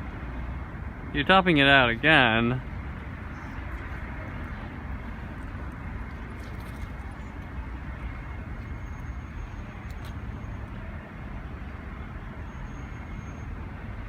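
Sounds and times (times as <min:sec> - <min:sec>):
distant traffic: 0:00.0 - 0:14.0.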